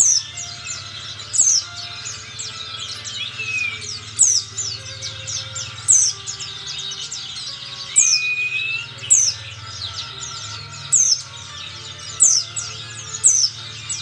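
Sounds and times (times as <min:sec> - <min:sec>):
rising bird whistle: 0:00.0 - 0:11.3
downward-sweeping bird notes: 0:00.0 - 0:14.0
songbird singing quick chirps: 0:00.0 - 0:14.0.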